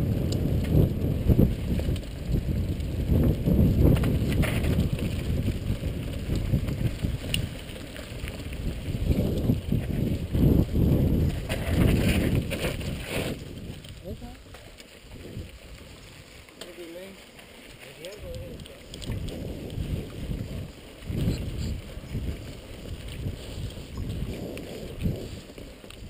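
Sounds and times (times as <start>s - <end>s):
bike rattling over bumps: 0.0s - 26.0s
bike tyres rumbling on dirt: 0.0s - 26.0s
wind buffeting microphone: 0.0s - 26.0s.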